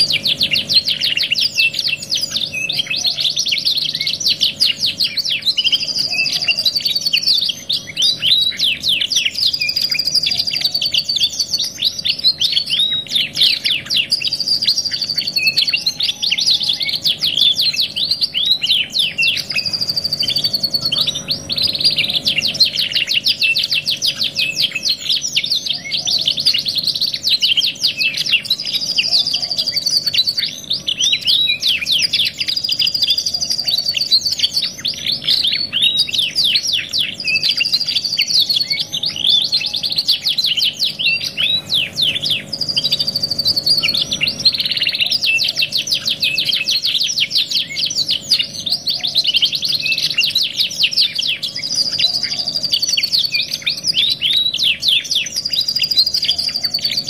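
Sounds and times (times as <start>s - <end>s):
canaries singing trills: 0.0s - 57.0s
faint steady hum: 0.0s - 57.0s.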